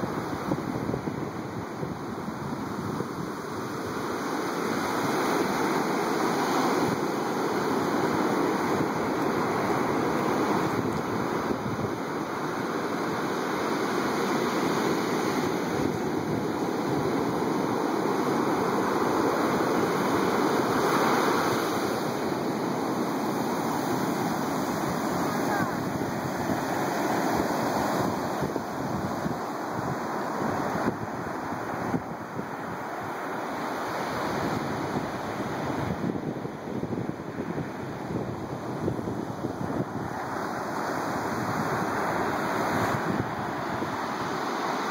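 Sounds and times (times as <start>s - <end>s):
surf breaking on beach: 0.0s - 44.9s.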